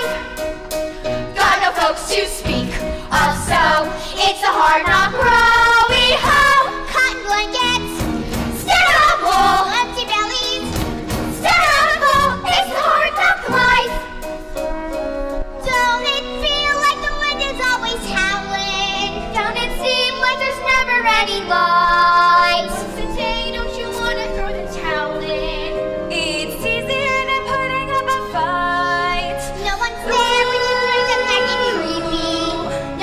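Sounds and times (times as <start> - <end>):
girls singing: 0.0 - 0.4, 1.1 - 10.7, 11.3 - 14.0, 15.7 - 33.0
instrumental accompaniment: 0.0 - 33.0.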